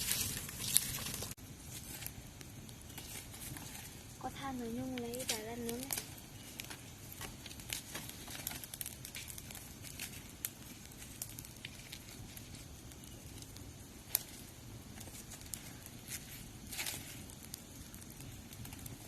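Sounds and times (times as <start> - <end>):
charcoal fire crackling: 0.0 - 19.0.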